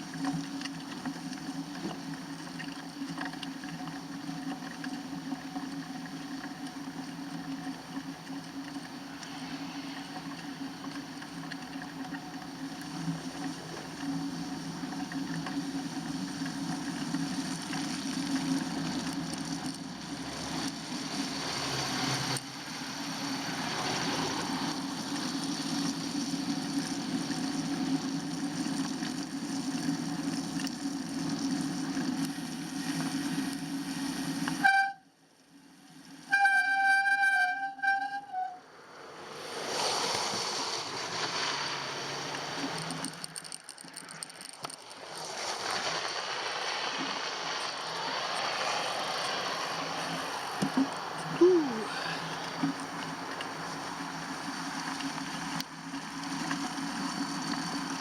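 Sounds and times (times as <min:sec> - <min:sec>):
road and wind hiss: 0:00.0 - 0:36.3, 0:38.6 - 0:58.0
bike riding hum: 0:00.0 - 0:36.5, 0:37.1 - 0:58.0.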